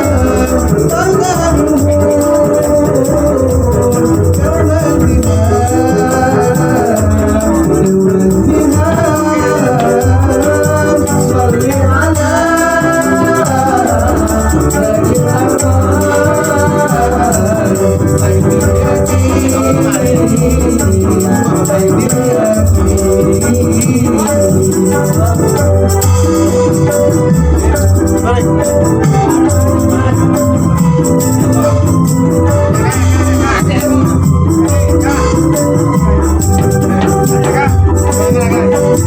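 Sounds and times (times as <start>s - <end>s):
frame drums beating: 0.0s - 39.0s
gliding melody line: 0.0s - 39.0s
jingling rattle percussion: 0.0s - 39.0s.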